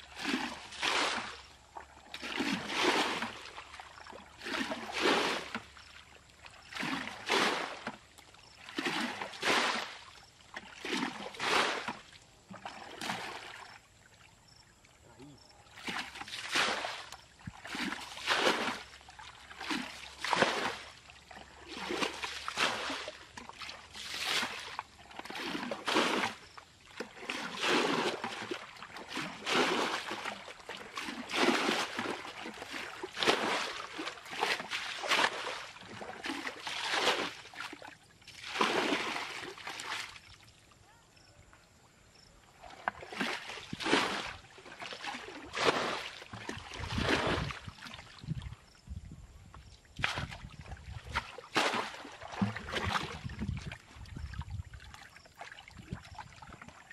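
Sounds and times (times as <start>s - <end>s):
bucket scooping and splashing water: 0.0s - 13.8s, 15.7s - 40.6s, 42.5s - 48.8s, 49.6s - 56.9s.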